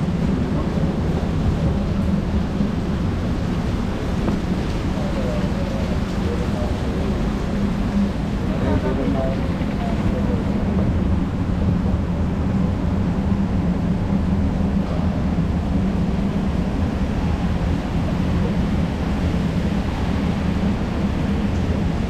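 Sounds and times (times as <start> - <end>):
escalator hum and rumble: 0.0 - 22.0.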